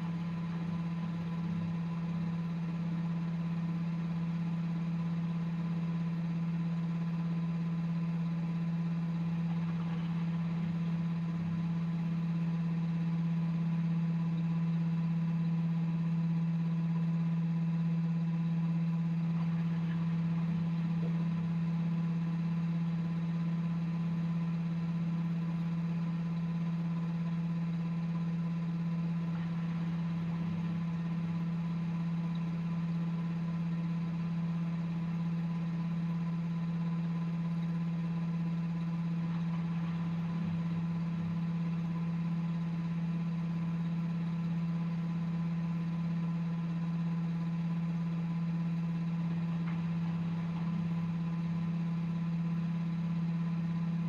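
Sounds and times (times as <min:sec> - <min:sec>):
faint high whine: 0:00.0 - 0:54.0
washing machine humming: 0:00.0 - 0:54.0.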